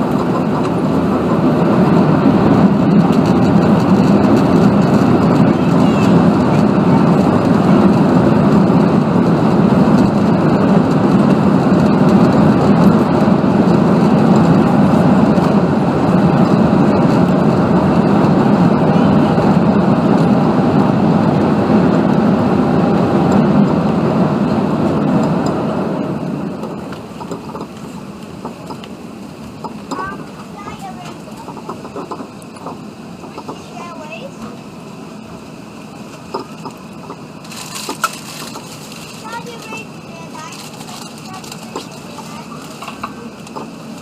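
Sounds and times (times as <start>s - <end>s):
jet engines and airflow rushing: 0.0s - 44.0s.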